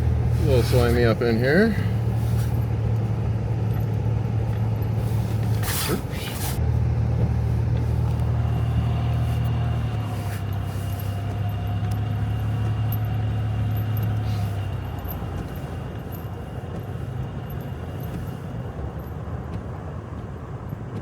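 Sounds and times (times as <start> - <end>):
vehicle engine droning: 0.0 - 21.0.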